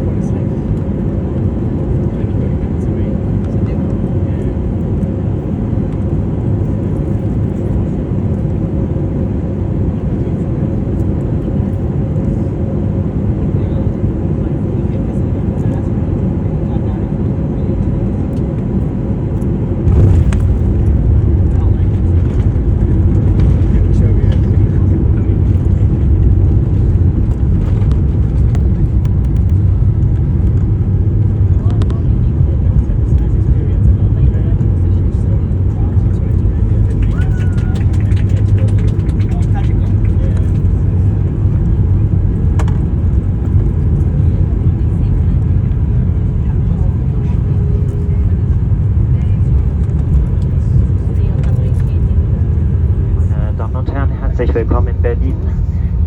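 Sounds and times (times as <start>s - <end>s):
jet cabin rumble: 0.0s - 56.0s.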